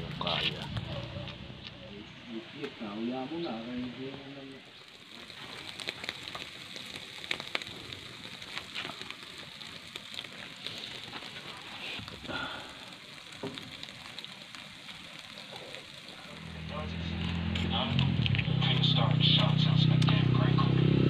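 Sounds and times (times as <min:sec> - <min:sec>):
meat sizzling: 0:00.0 - 0:21.0
wood fire crackling and popping: 0:00.0 - 0:21.0.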